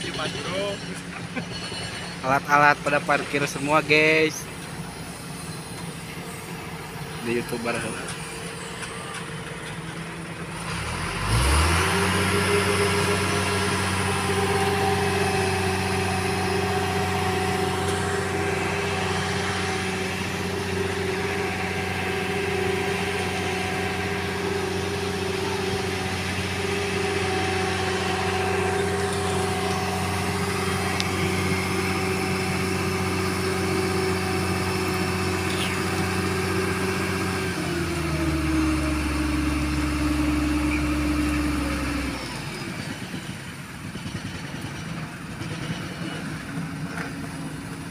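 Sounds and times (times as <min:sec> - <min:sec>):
heavy diesel engine revving: 0:00.0 - 0:47.9.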